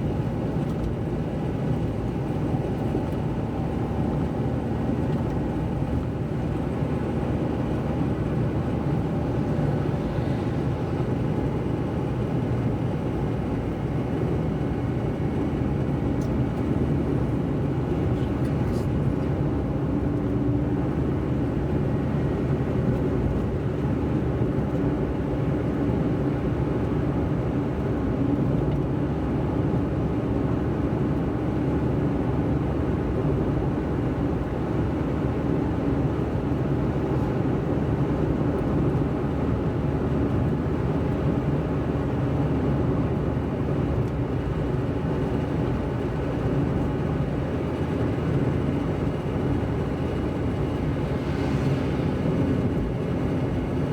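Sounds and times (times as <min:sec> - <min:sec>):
car tyre and engine rumble: 0:00.0 - 0:53.9.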